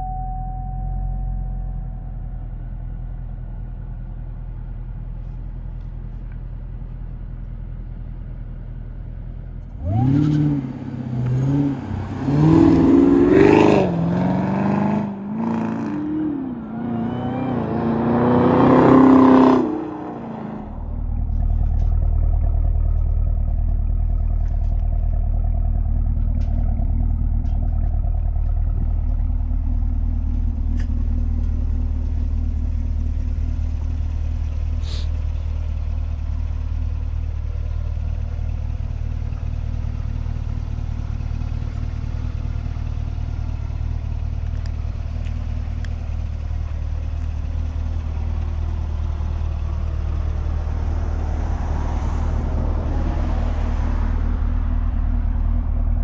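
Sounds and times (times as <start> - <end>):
car engine revving: 9.6 - 56.0.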